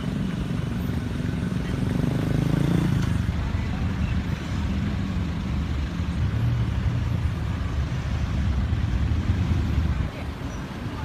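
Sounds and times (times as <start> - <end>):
traffic engines idling: 0.0 - 11.0.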